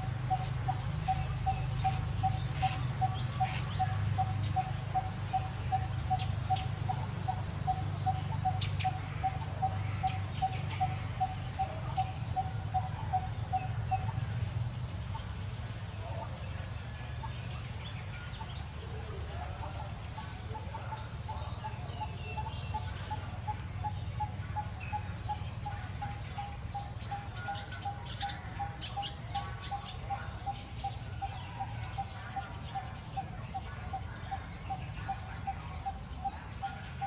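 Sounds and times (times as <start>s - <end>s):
higher bird chirps: 0.0s - 37.0s.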